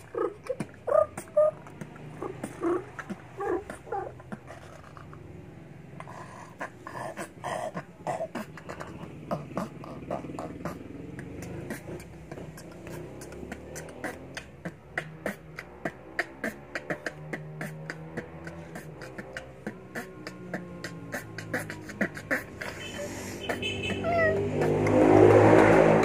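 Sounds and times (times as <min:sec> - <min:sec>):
boy beatboxing: 0:00.0 - 0:26.0.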